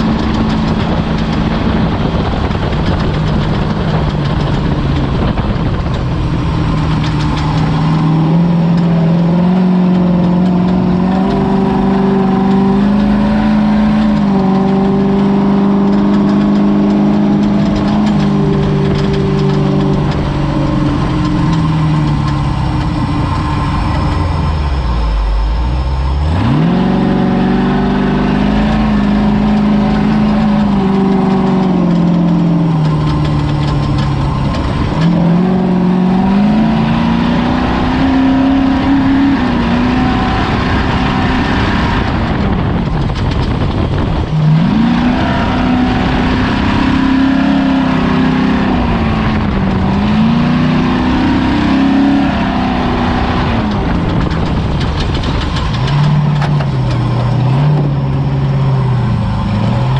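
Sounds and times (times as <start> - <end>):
constant loud noise: 0.0 - 59.9
truck engine revving hard: 0.0 - 59.9.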